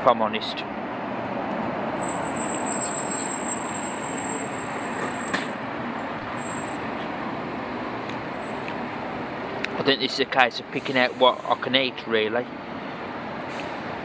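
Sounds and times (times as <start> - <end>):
background traffic noise: 0.0 - 14.0.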